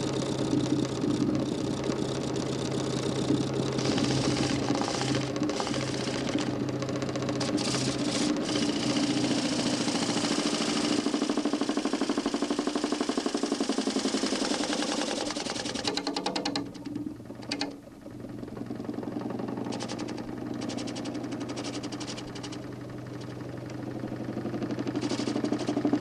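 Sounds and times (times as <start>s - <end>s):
motor spinning disc with rattle: 0.0s - 26.0s.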